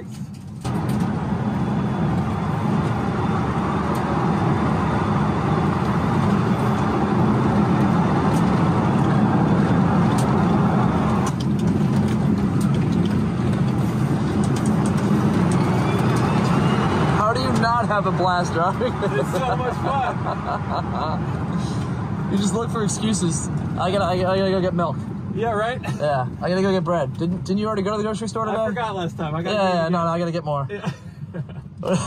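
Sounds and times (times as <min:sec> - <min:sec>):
tyre and road rumble: 0:00.0 - 0:31.0.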